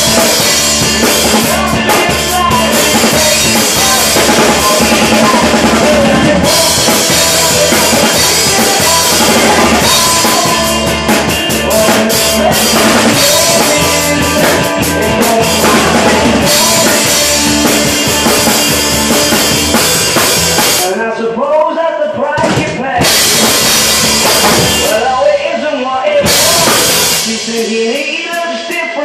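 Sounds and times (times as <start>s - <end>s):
drum kit playing: 0.0s - 21.0s, 22.4s - 29.0s
recorded rock song: 0.0s - 29.0s.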